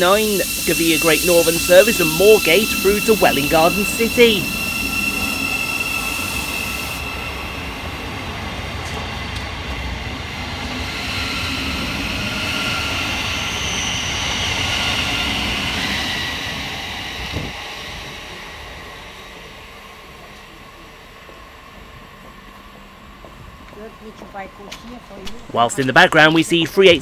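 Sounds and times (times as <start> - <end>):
train wheels running on rails: 0.0 - 27.0.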